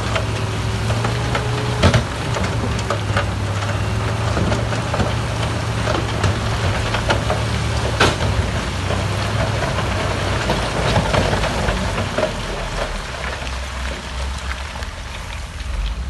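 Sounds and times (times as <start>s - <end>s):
diesel earthmoving machine running: 0.0s - 16.0s.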